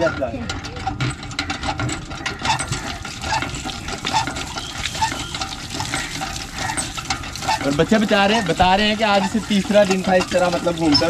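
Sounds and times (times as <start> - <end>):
pump mechanism stroke: 0.0 - 11.0
water splashing from pump spout: 0.0 - 11.0.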